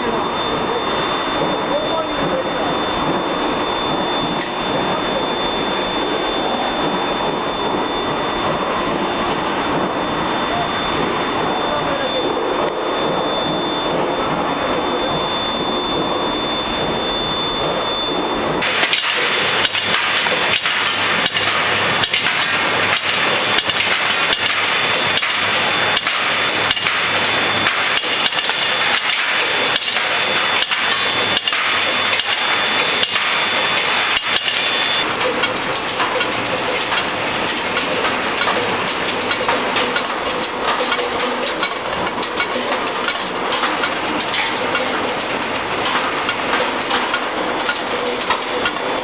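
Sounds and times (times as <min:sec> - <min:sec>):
rolling mill machine noise: 0:00.0 - 0:49.0.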